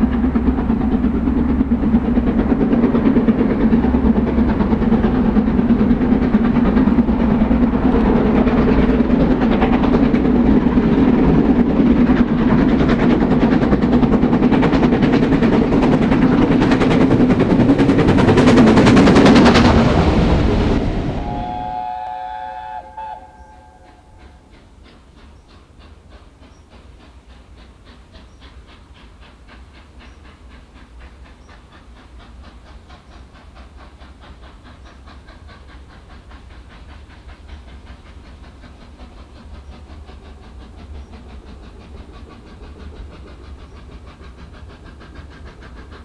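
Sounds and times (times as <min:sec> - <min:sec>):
steam locomotive exhaust beats: 0:00.0 - 0:46.0.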